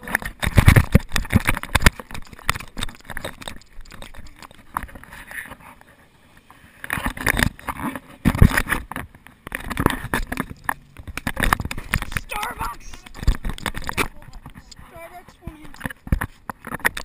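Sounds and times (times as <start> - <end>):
handheld camera knocks and rubbing: 0.0 - 5.8, 6.8 - 17.0.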